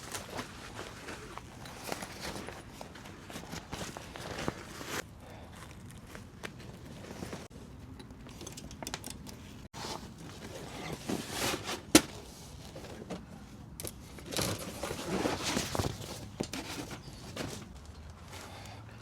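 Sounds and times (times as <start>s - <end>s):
rustling and handling noise: 0.0s - 18.9s.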